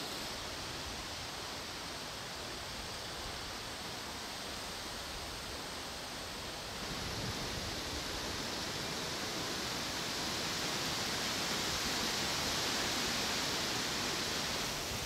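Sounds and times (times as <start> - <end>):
wind rustling reeds and leaves: 0.0 - 15.0.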